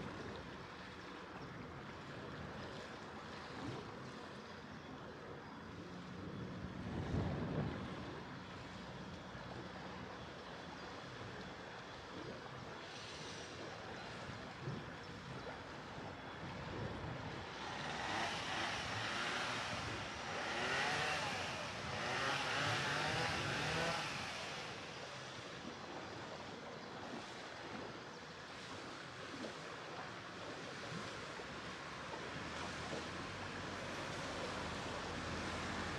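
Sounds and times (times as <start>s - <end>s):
water wash and boat motor: 0.0s - 35.9s.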